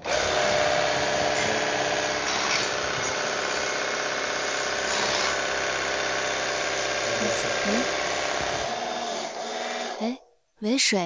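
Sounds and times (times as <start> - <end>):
pressure washer motor drone: 0.0 - 10.0.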